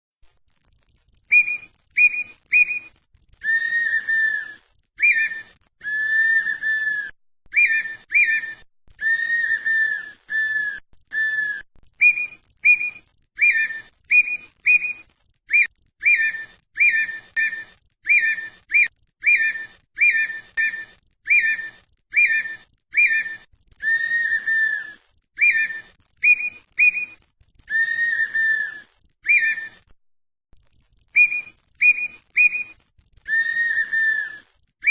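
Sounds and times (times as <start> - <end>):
bird flute-like whistles: 1.3 - 29.9, 31.2 - 34.9.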